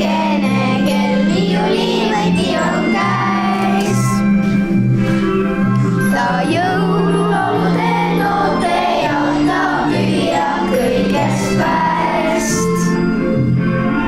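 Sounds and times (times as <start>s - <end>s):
children singing: 0.0s - 4.3s, 6.0s - 13.0s
instrumental accompaniment: 0.0s - 14.0s.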